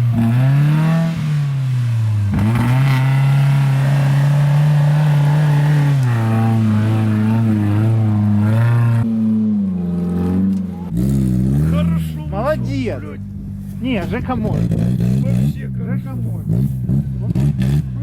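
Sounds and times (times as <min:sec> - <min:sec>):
car engine revving hard: 0:00.0 - 0:12.8, 0:13.8 - 0:18.0.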